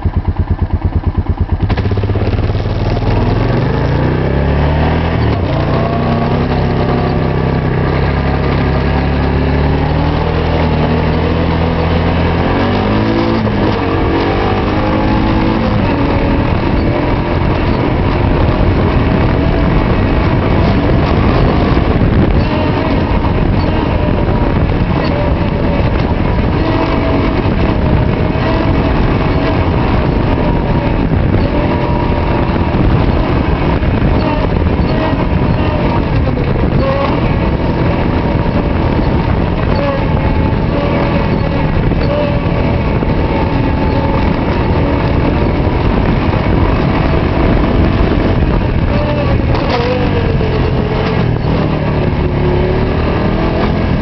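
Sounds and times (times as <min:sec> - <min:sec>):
quad bike engine running: 0:00.0 - 0:54.0
rough low rumble: 0:00.0 - 0:54.0.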